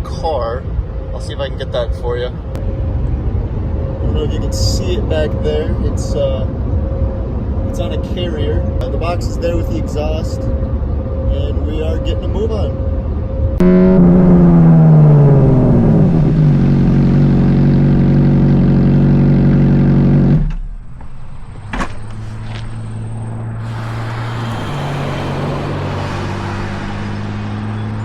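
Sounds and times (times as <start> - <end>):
road and wind noise: 0.0 - 28.0
car engine running: 2.3 - 28.0.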